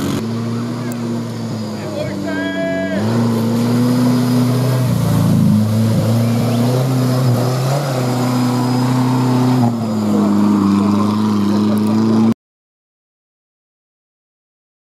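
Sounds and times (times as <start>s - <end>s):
off-road car engine driving through mud: 0.0s - 12.4s.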